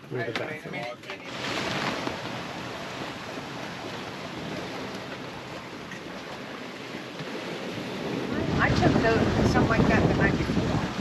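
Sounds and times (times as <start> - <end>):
sea water rushing: 0.0 - 11.0
wind: 0.0 - 11.0.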